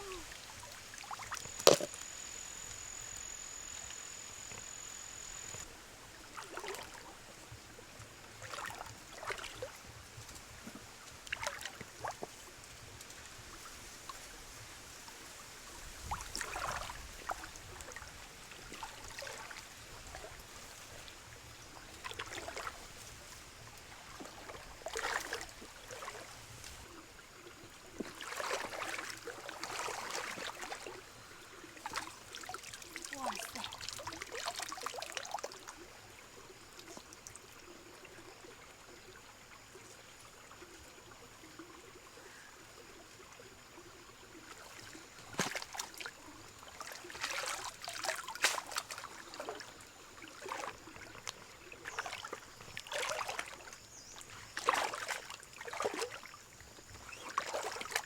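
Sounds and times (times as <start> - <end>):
water splashing and trickling: 0.0 - 14.5, 15.8 - 58.0.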